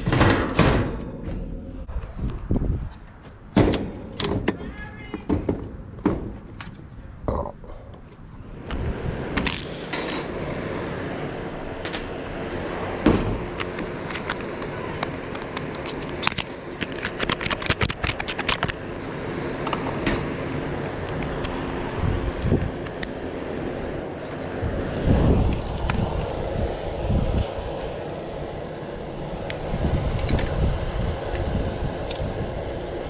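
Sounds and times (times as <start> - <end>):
steady low hum: 0.0 - 4.2, 6.8 - 33.0.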